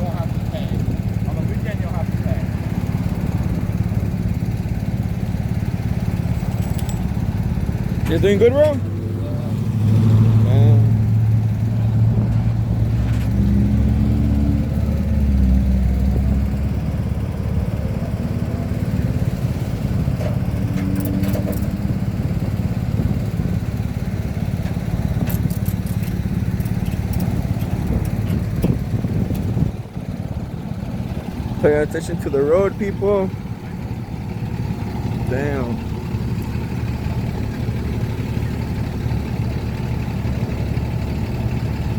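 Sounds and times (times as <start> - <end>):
vehicle engine rumbling: 0.0 - 41.9.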